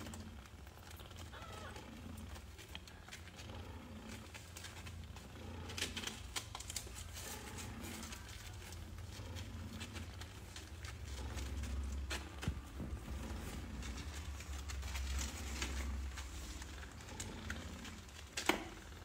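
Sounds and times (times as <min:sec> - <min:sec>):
kittens suckling: 0:00.0 - 0:19.0
soft clicks and rustles: 0:00.0 - 0:19.0.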